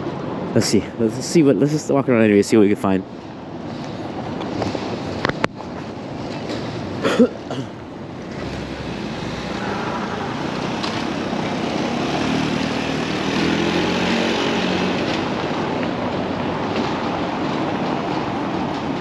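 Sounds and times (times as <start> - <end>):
car tyres on wet cobblestones: 0.0 - 19.0.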